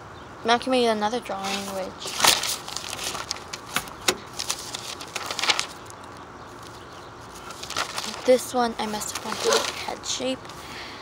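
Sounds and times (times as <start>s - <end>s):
paper pages rustling: 1.3s - 10.6s.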